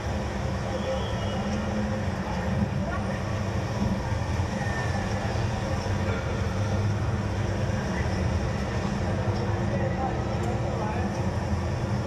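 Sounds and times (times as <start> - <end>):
vehicle rumbling in motion: 0.0 - 12.0.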